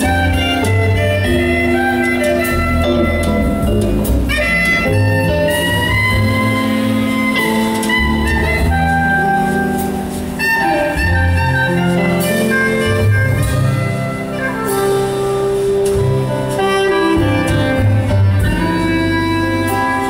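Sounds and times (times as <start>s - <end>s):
drum kit: 0.0s - 20.0s
piano: 0.0s - 20.0s
saxophone melody: 0.0s - 20.0s
upright bass: 0.0s - 20.0s.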